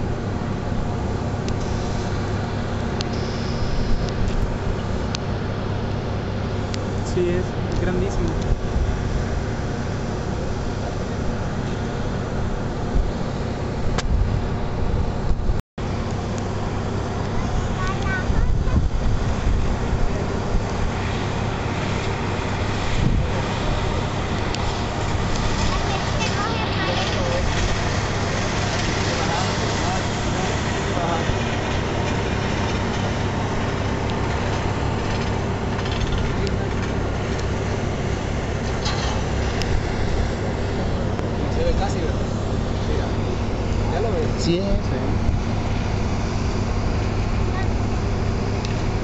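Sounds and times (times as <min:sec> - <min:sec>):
machinery rumble and hiss: 0:00.0 - 0:49.0.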